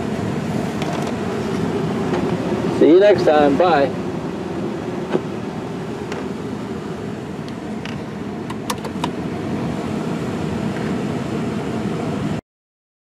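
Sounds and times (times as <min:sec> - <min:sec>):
steady low rumbling: 0:00.0 - 0:12.4.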